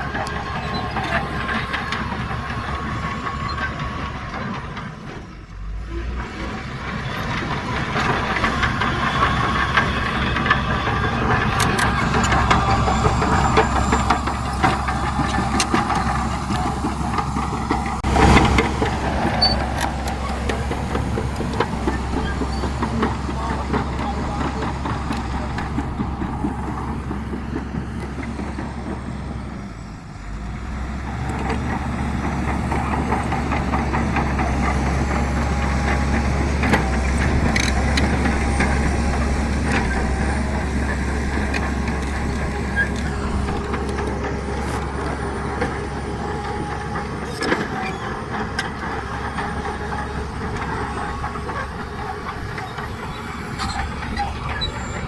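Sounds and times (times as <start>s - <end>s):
diesel earthmoving machinery: 0.0s - 55.0s.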